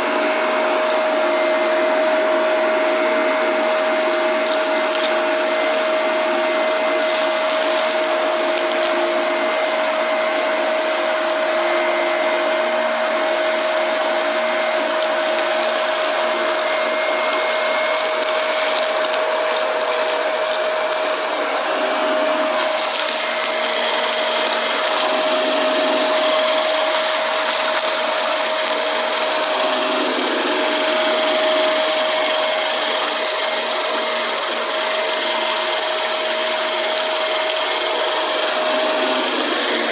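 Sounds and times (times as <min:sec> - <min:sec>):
debris crackling in vacuum: 0:00.0 - 0:39.9
vacuum cleaner motor whine: 0:00.0 - 0:39.9.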